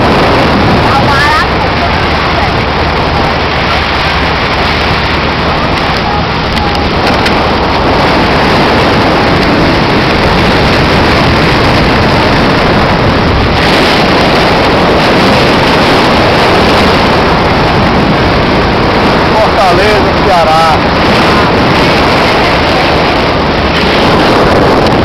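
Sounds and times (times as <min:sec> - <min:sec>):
motorboat running at speed: 0:00.0 - 0:25.0
wind buffeting microphone: 0:00.0 - 0:25.0.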